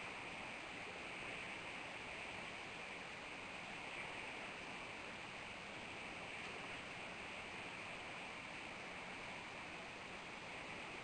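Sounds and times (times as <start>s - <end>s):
wind hiss: 0.0s - 11.0s.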